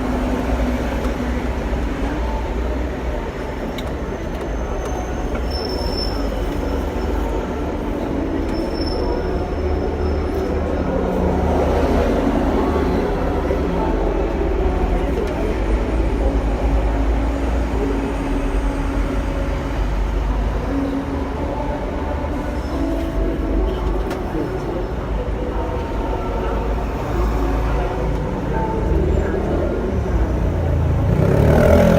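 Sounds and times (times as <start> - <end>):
tram wheels and motor rumbling: 0.0 - 31.9.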